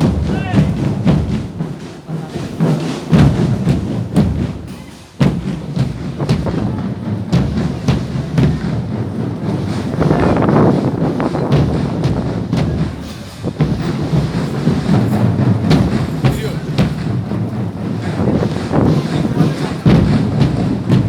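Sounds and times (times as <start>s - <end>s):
drums beating steadily: 0.0s - 21.0s.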